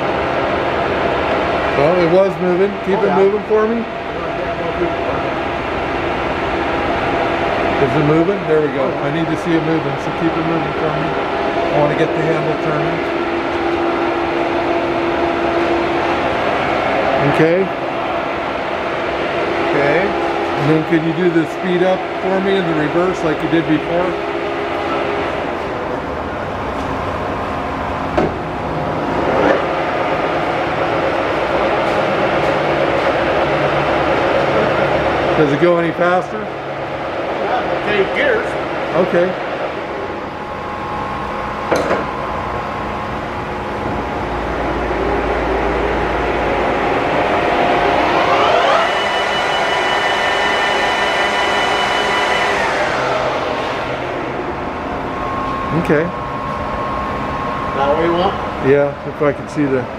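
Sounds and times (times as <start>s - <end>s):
lathe spindle whine: 0.0s - 58.6s
lathe gearing running: 0.0s - 59.9s.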